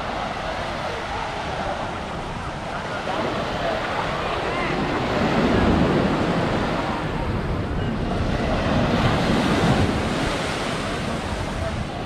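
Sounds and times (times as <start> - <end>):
ocean waves breaking on sand: 0.0 - 12.0
wind rumbling on microphone: 0.0 - 12.0.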